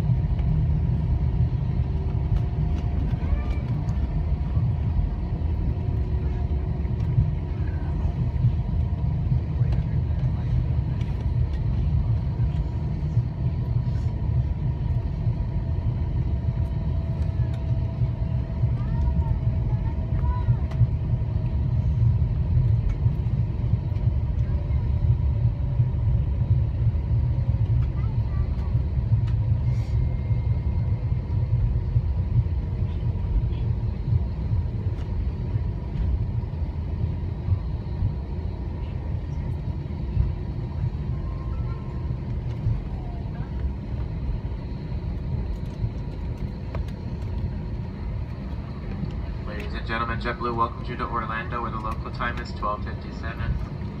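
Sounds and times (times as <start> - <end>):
aircraft taxiing rumble in cabin: 0.0 - 54.0.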